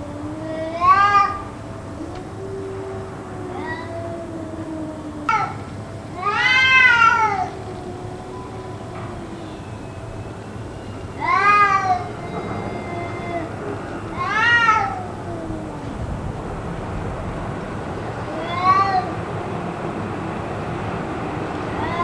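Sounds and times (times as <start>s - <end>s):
cats yowling: 0.0s - 16.6s, 17.4s - 22.0s
low drawn-out moaning: 0.0s - 22.0s.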